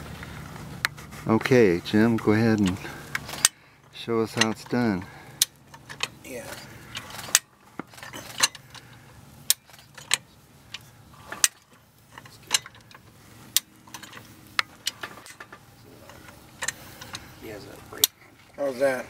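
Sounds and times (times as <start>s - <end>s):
jack pins clacking: 1.9s - 18.4s.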